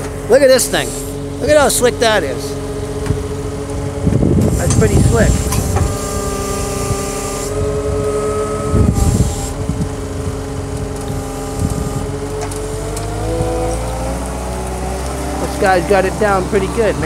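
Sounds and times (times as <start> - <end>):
loader engine running under load: 0.0 - 17.0.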